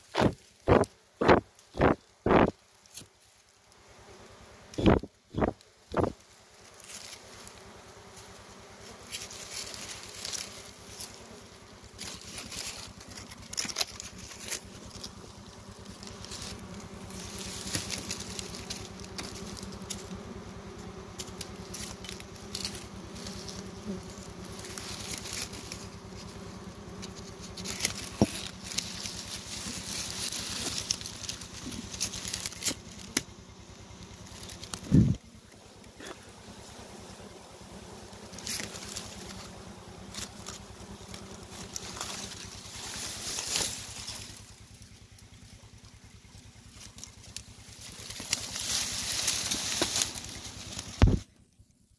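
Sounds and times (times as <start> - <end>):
bees buzzing: 0.0 - 51.4
dry grass crackling and rustling: 0.0 - 51.6.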